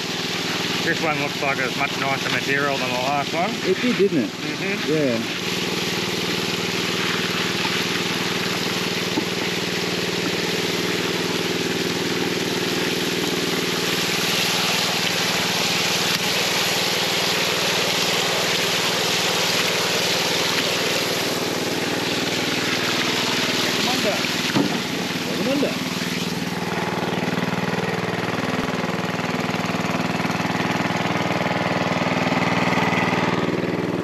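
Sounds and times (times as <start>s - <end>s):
small engine pump running: 0.0s - 34.0s
water gushing and splashing: 0.0s - 34.0s.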